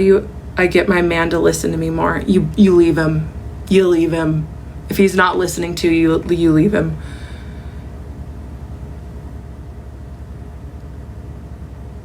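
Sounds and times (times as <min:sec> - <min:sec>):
faint steady tones: 0:00.0 - 0:12.0
low hum: 0:00.0 - 0:12.0.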